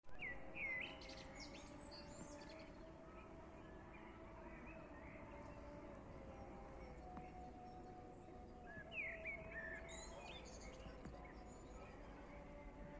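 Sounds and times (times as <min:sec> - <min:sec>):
birds chirping and calling: 0:00.2 - 0:12.9.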